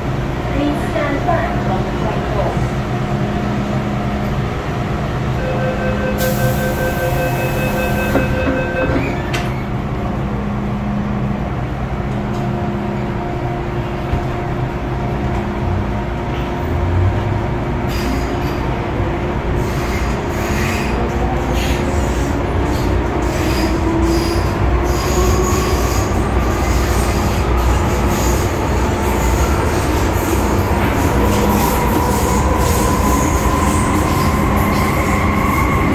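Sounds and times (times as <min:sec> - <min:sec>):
wheels rumbling and squealing on rail: 0:00.0 - 0:35.9.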